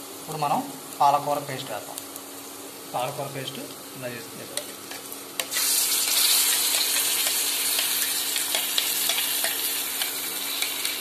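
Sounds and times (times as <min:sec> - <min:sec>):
paste sizzling in hot oil: 0:01.1 - 0:11.0.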